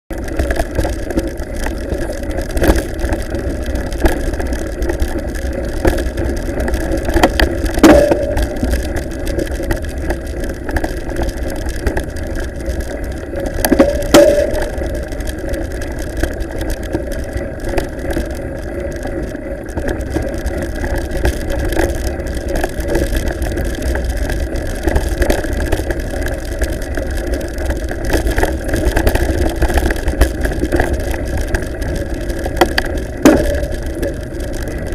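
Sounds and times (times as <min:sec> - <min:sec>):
bike rattling and knocking: 0:00.1 - 0:34.9.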